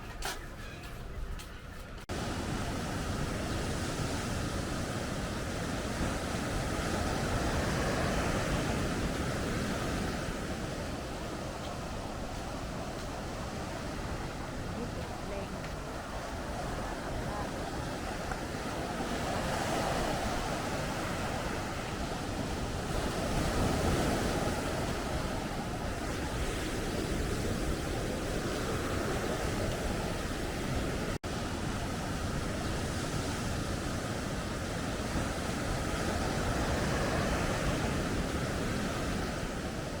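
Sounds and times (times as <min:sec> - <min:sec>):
wind rumbling on microphone: 0:00.0 - 0:40.0
surf breaking on beach: 0:02.1 - 0:40.0.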